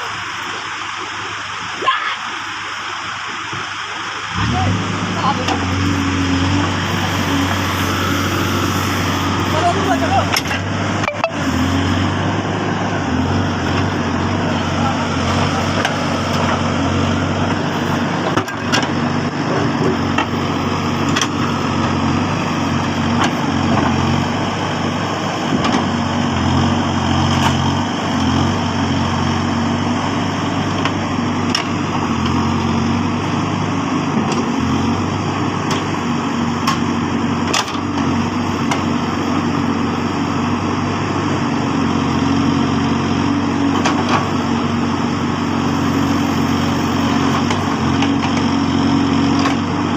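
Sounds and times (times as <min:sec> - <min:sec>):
backhoe loader diesel engine running: 0:02.5 - 0:49.9.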